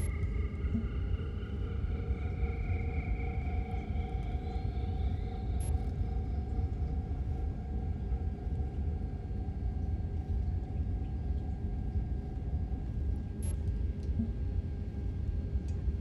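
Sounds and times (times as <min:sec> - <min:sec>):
constant hum tone: 0:00.0 - 0:16.0.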